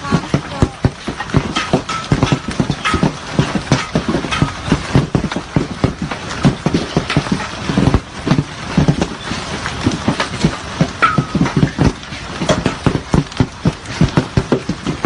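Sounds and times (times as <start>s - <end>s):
hailstones pelting hard surfaces: 0.0s - 15.0s.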